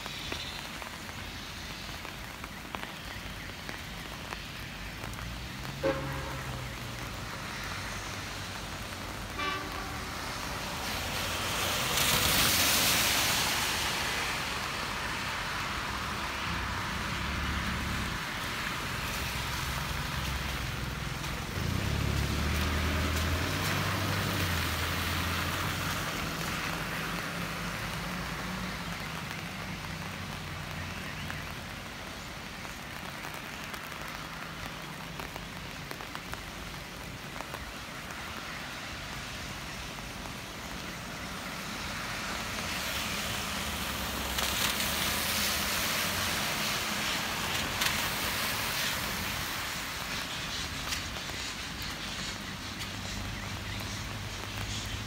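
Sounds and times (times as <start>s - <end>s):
tyre hiss on wet road: 0.0s - 55.0s.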